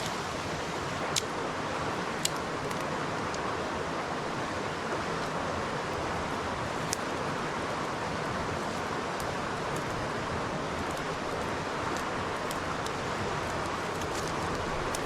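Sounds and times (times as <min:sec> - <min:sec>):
campfire crackling: 0:00.0 - 0:03.6, 0:04.7 - 0:15.0
river water rushing: 0:00.0 - 0:15.0.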